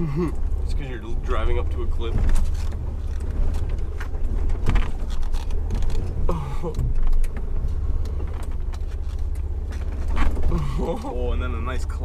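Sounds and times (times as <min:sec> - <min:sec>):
engine running at low revs: 0:00.0 - 0:12.0
knocks and rattles: 0:00.4 - 0:12.0.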